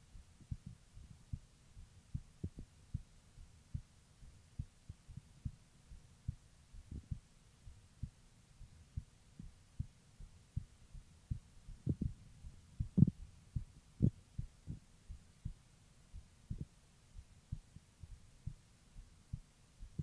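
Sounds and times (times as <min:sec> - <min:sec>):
heartbeat through stethoscope: 0:00.1 - 0:20.0.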